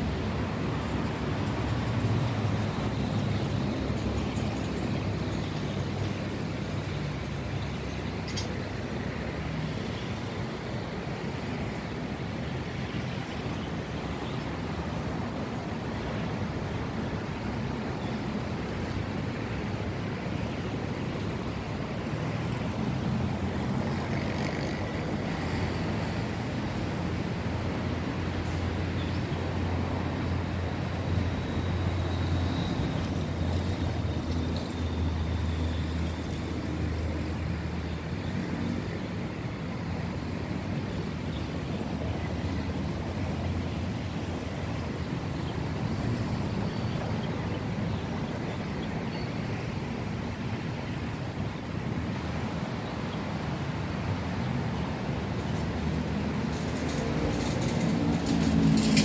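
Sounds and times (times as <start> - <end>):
distant road traffic rumble: 0.0 - 59.0.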